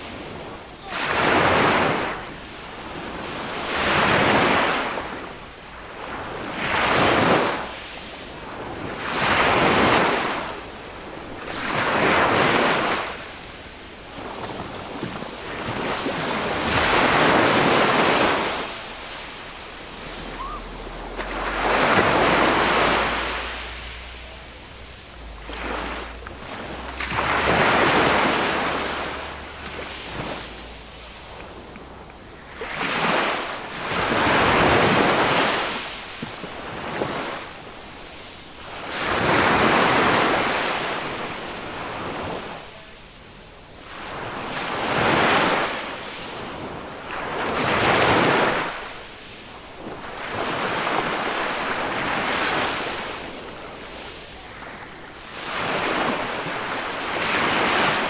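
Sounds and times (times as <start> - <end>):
small waves washing up beach: 0.0 - 58.0.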